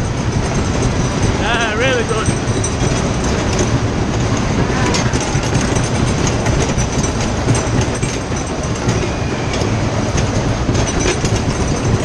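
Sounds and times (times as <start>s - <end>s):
fairground ride rolling rumble: 0.0s - 12.0s.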